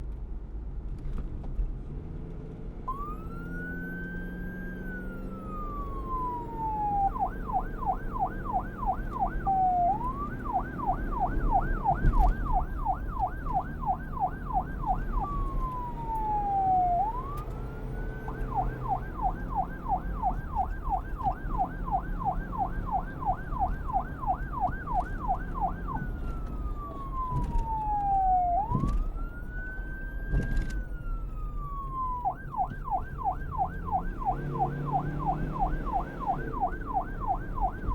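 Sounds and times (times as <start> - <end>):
police siren wail and yelp: 2.9 - 37.9.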